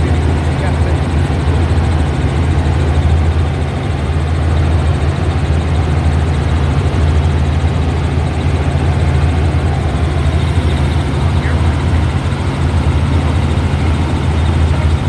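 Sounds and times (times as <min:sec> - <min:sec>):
helicopter engine and rotors: 0:00.0 - 0:15.0.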